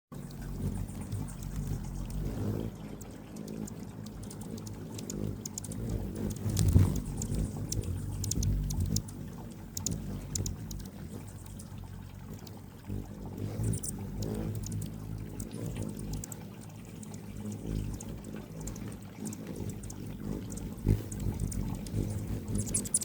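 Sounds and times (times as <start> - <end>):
hummingbird chip notes: 0.2 - 23.0
low steady hum: 0.2 - 23.0.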